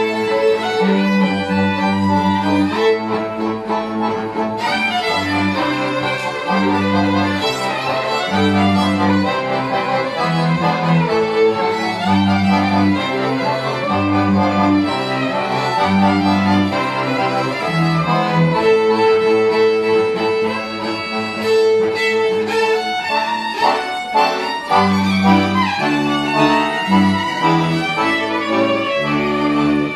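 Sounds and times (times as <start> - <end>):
accordion bass and chords: 0.0 - 29.9
fiddles playing melody: 0.0 - 29.9.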